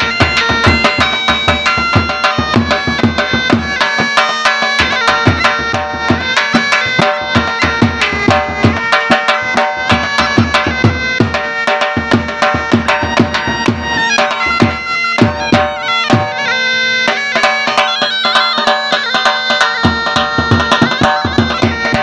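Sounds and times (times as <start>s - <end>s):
quick drum beats: 0.0s - 16.4s, 17.0s - 22.0s
shehnai melody: 0.0s - 22.0s.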